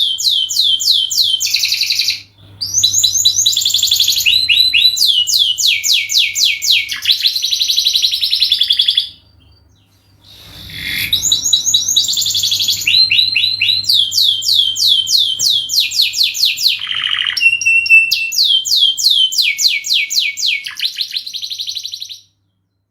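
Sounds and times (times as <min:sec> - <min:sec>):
canary singing trills: 0:00.0 - 0:22.9.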